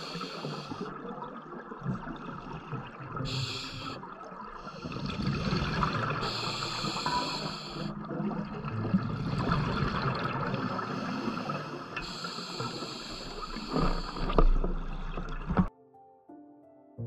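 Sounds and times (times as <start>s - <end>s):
hissing scuba bubbles: 0.0s - 15.7s
underwater water noise: 0.0s - 15.7s.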